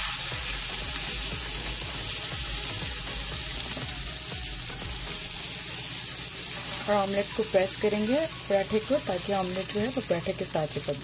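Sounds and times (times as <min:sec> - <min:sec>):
egg sizzling in oil: 0:00.0 - 0:11.0.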